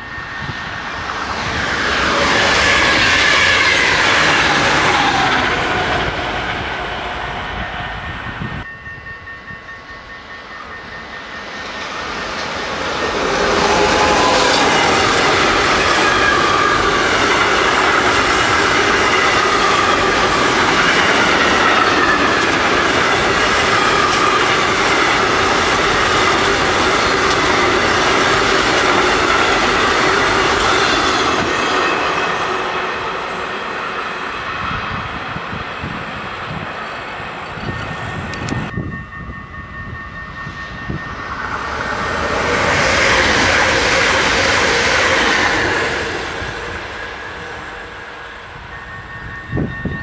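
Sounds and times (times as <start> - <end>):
wavering high-pitched tones: 0.0 - 35.0, 37.3 - 50.0
freight train passing: 0.0 - 50.0
wheels clacking on rails: 0.0 - 50.0.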